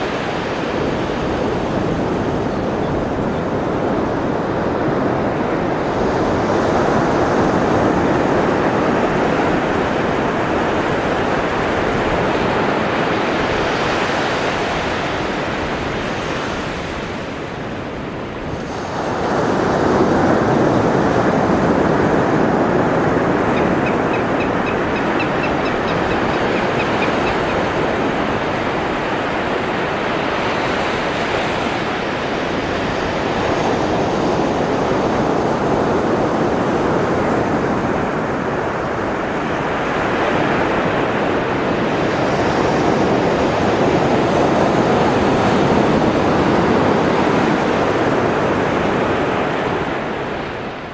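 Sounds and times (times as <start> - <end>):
ocean surf washing: 0.0 - 50.9.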